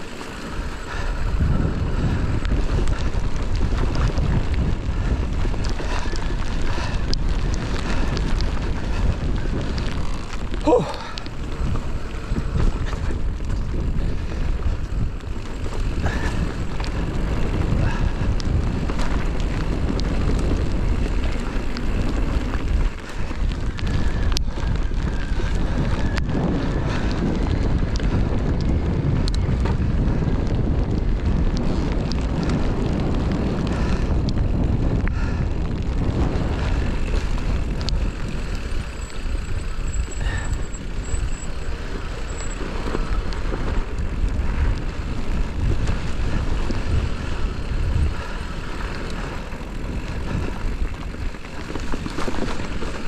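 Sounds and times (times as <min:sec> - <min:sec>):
tyres rumbling on rough trail: 0:00.0 - 0:53.0
wind buffeting microphone: 0:00.0 - 0:53.0.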